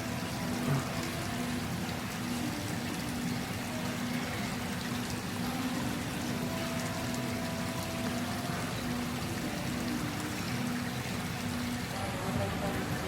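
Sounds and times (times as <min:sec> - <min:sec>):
running water in fish tank: 0:00.0 - 0:13.0.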